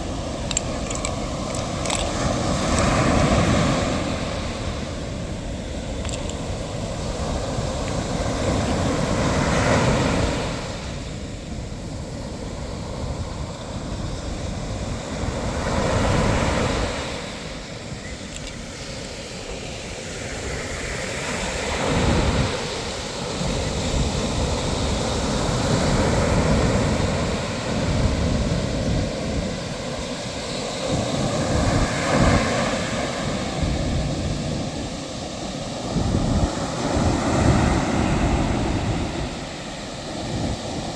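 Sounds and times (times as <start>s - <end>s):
sea waves washing onto shore: 0.0s - 40.9s
wind rumbling on microphone: 0.0s - 40.9s.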